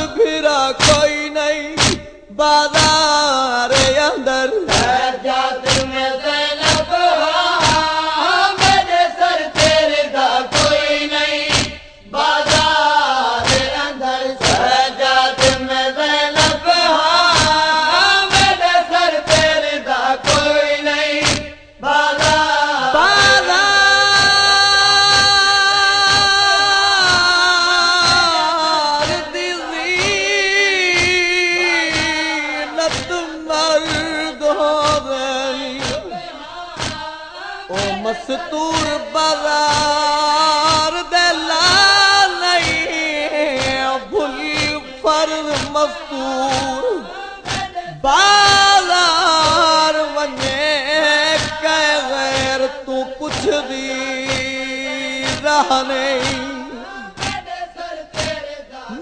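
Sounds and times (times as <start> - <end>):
men chanting in unison: 0.0 - 59.0
chest-striking beat: 0.8 - 3.1, 3.7 - 18.7, 19.3 - 37.1, 37.7 - 45.9, 51.4 - 57.5.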